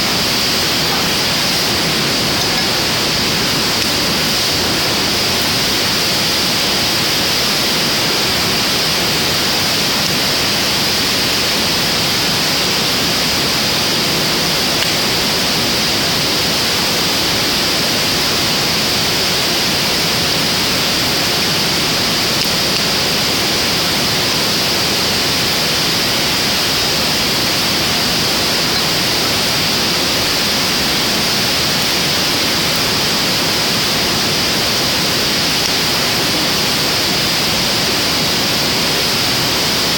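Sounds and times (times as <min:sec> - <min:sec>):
fire burning with steady hiss: 0:00.0 - 0:39.9.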